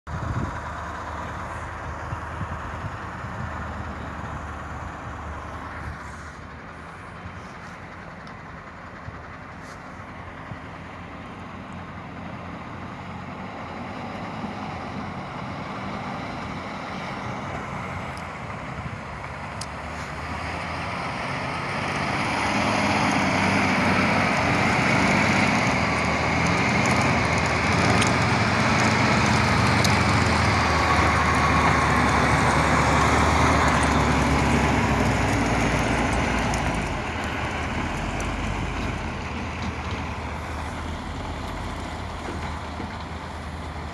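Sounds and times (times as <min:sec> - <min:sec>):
heavy truck engine running: 0:00.1 - 0:43.9.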